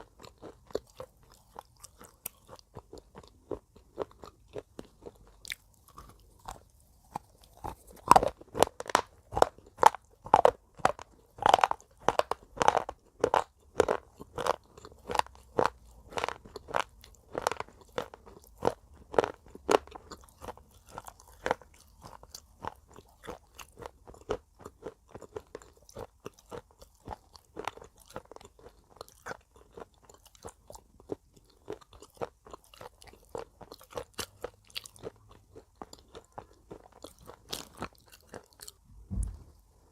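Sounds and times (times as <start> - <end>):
slate pencil being chewed: 0.0 - 38.8.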